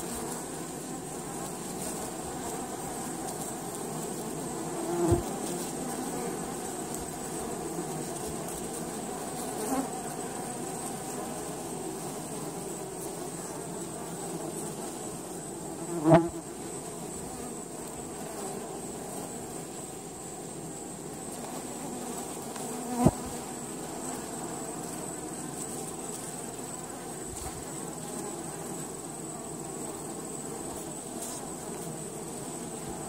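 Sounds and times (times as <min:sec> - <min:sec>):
honey bees buzzing: 0:00.0 - 0:33.0.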